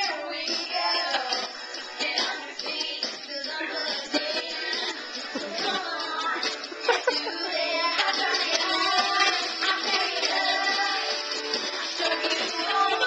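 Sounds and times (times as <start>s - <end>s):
music with singing voice: 0.0s - 13.0s.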